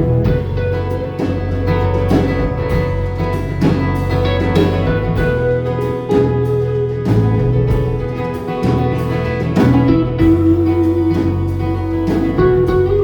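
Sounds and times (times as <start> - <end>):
bass line: 0.0 - 13.0
guitar: 0.0 - 13.0
live band playing folk-rock: 0.0 - 13.0.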